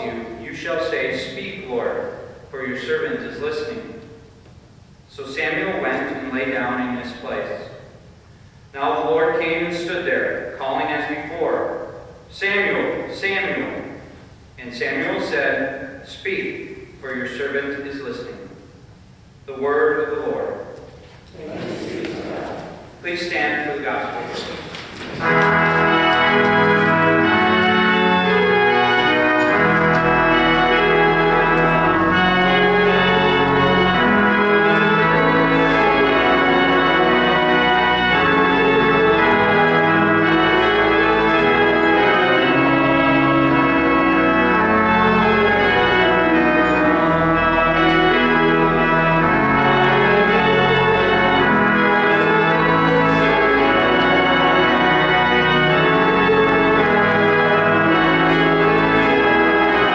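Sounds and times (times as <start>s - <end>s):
pipe organ playing chords: 0.0s - 21.0s, 21.8s - 59.9s.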